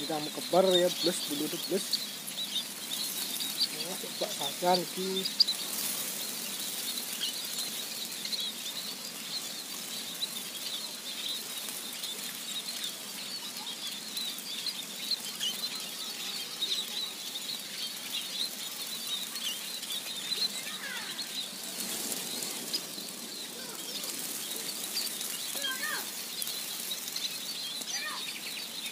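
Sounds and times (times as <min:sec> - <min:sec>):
small birds twittering: 0:00.0 - 0:28.9.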